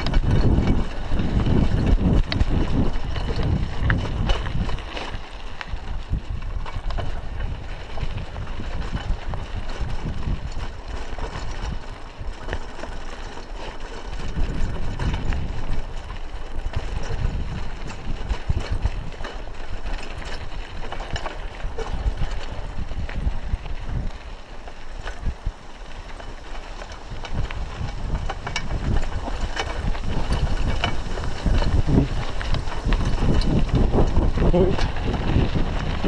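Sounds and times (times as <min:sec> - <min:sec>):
bike rattling over bumps: 0:00.0 - 0:36.0
bike tyres rumbling on dirt: 0:00.0 - 0:36.0
wind rumble on microphone: 0:00.0 - 0:36.0.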